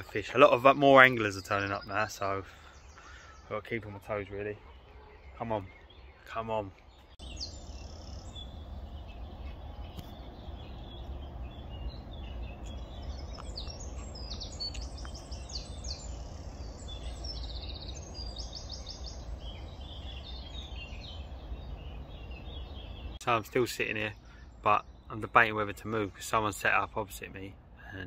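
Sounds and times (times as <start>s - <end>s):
songbirds trilling: 0.0s - 28.0s.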